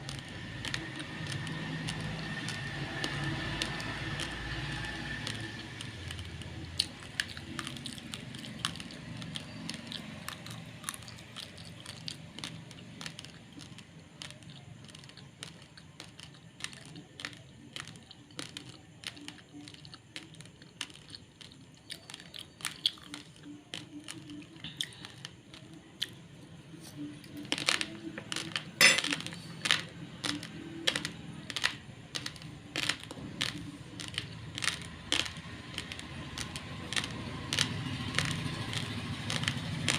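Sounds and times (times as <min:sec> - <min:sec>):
rice grains crunched between teeth: 0:00.0 - 0:39.9.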